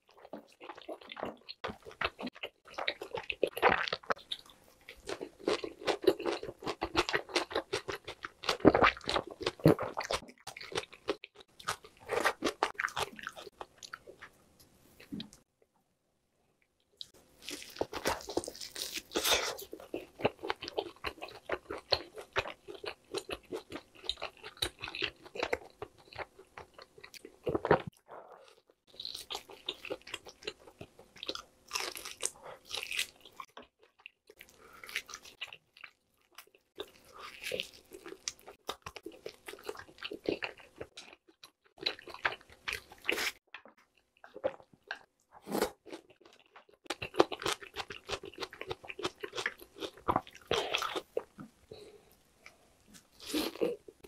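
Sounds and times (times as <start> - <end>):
person chewing meat: 0.1 - 14.3, 17.0 - 54.0.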